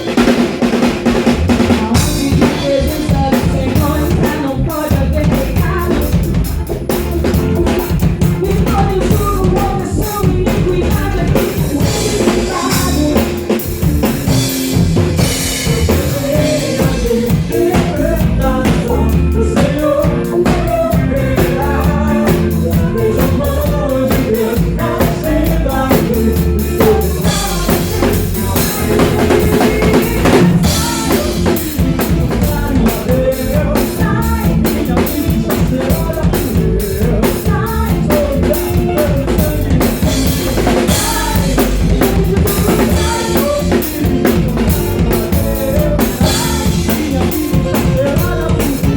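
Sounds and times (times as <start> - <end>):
drum kit beat: 0.0 - 48.9
live band playing: 0.0 - 48.9.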